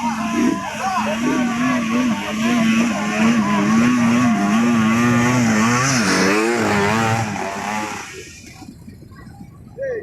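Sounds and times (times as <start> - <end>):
motorcycle engine revving: 0.0 - 8.7.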